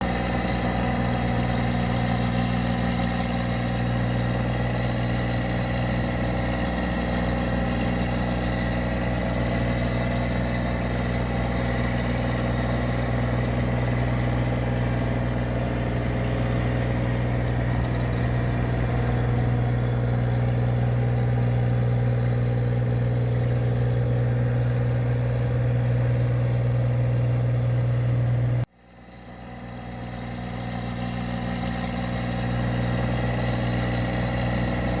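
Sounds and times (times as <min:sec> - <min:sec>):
machine engine humming: 0:00.0 - 0:28.7.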